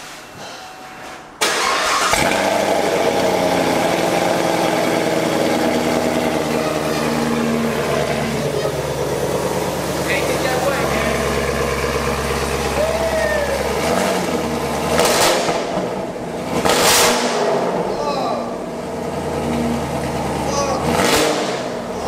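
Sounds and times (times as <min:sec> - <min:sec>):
car engine starting and idling: 0:01.4 - 0:22.0.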